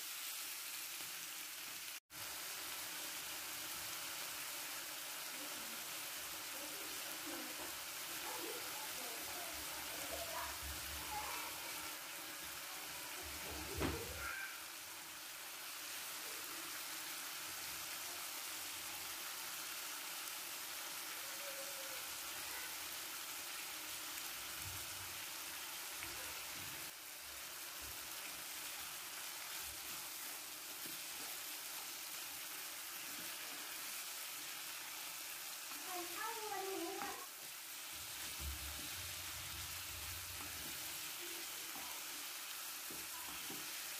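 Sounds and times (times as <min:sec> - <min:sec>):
chicken sizzling in oil: 0:00.0 - 0:43.9.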